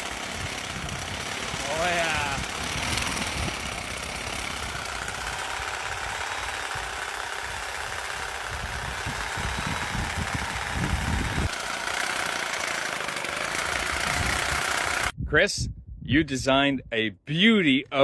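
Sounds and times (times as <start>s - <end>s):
reciprocating saw running: 0.0s - 15.1s.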